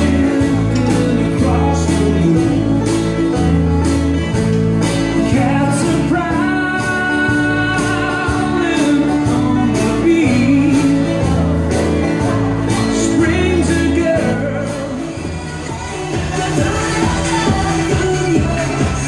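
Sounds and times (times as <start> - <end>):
dance music with singing: 0.0 - 19.0.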